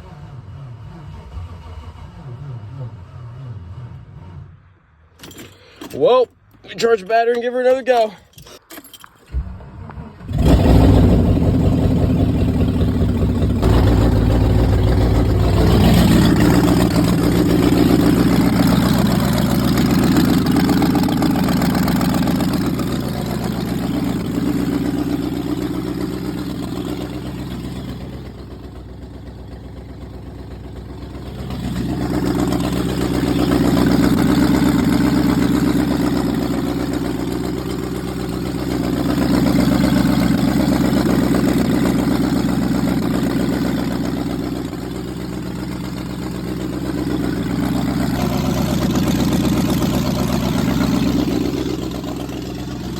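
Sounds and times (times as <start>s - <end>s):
car engine running roughly: 0.0s - 3.8s, 5.1s - 8.2s, 9.3s - 52.9s
engine cranking: 0.0s - 52.9s.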